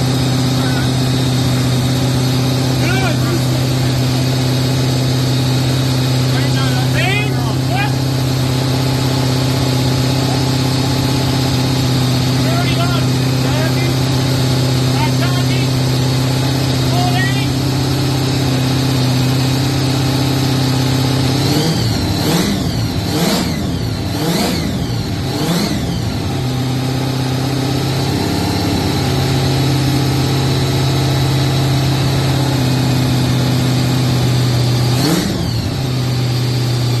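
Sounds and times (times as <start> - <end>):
engine running and revving: 0.0 - 37.0.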